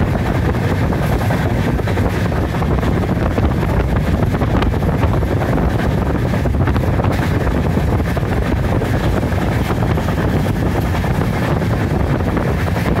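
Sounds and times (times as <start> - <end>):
train running noise: 0.0 - 13.0
wind buffeting microphone: 0.0 - 13.0.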